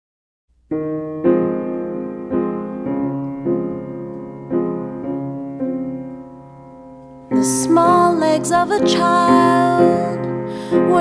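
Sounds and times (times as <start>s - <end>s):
keyboard playing sustained chords: 0.8s - 11.0s.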